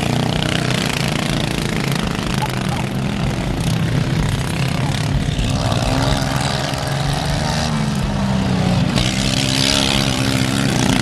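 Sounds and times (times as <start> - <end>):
racing lawn tractor engines: 0.0 - 11.0.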